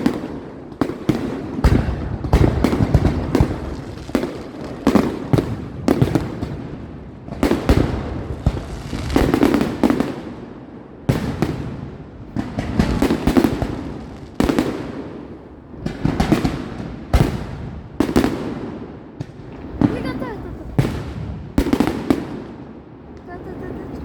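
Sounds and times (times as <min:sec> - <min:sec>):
fireworks bursting with crackle: 0:00.0 - 0:24.0.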